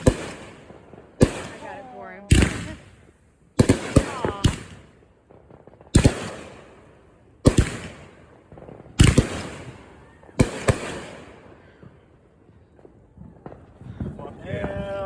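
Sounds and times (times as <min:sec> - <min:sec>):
fireworks banging: 0:00.0 - 0:15.0
fireworks crackling: 0:00.0 - 0:15.0.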